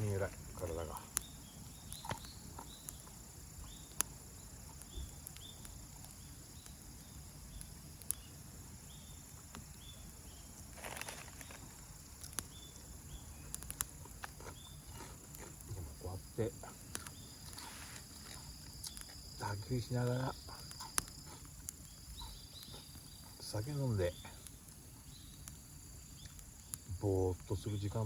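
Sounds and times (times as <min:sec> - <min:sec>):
campfire crackling and popping: 0:00.0 - 0:28.0
insects chirping: 0:00.0 - 0:28.0.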